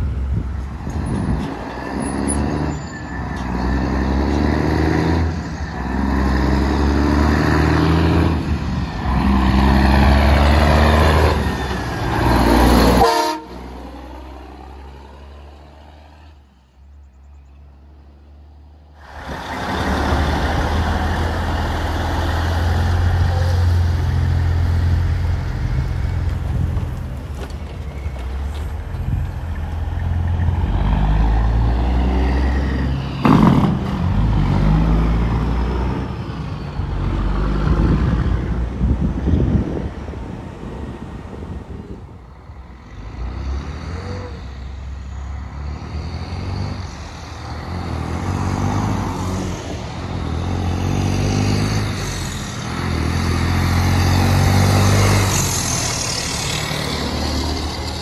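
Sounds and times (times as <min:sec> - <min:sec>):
diesel truck engines accelerating: 0:00.0 - 0:58.0.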